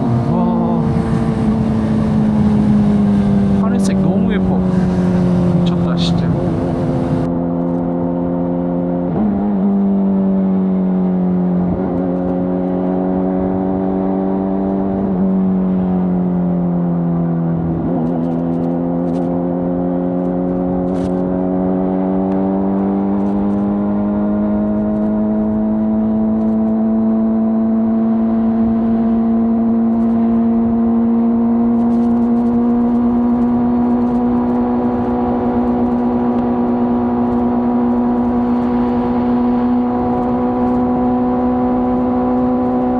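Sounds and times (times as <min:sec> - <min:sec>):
motorcycle engine at high revs: 0:00.0 - 0:42.9.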